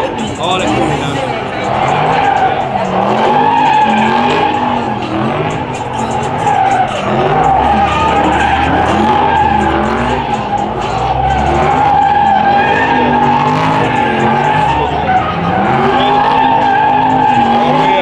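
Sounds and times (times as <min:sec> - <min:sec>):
car engine revving: 0:00.0 - 0:18.0
tire squeal: 0:00.0 - 0:18.0.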